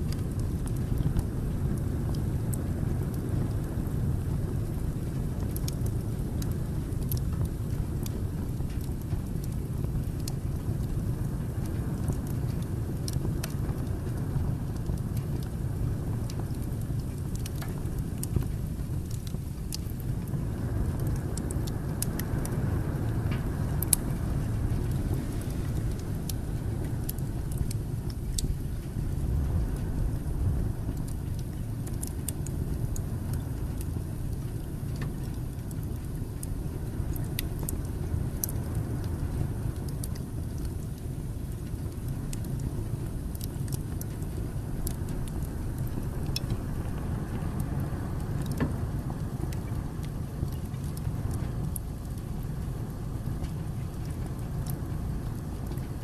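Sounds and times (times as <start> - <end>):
flames rushing: 0.0 - 56.0
logs crackling and popping: 0.0 - 56.0.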